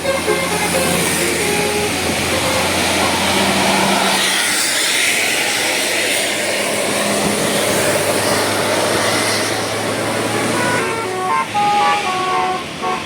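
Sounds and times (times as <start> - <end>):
bus engine and road noise: 0.0 - 13.0
low engine hum: 0.0 - 13.0.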